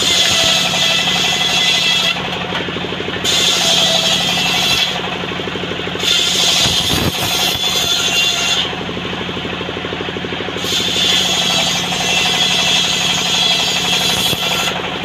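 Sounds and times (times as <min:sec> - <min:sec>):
saw engine running: 0:00.0 - 0:15.0.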